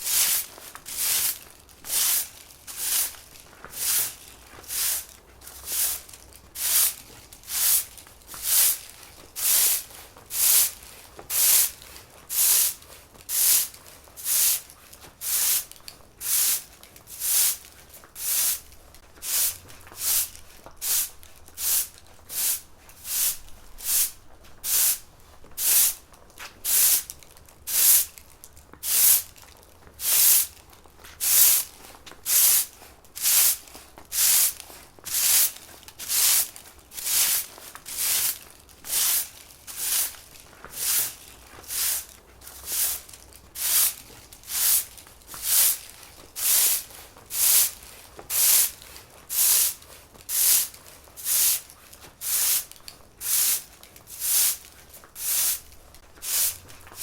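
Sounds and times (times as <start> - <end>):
broom sweeping a floor: 0.0 - 57.0.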